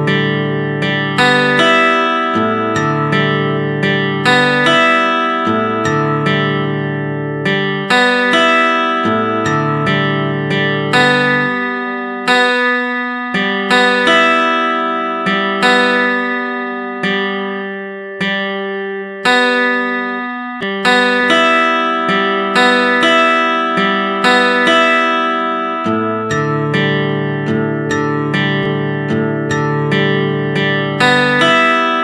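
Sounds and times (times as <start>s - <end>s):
plucked acoustic guitar melody: 0.0s - 32.0s.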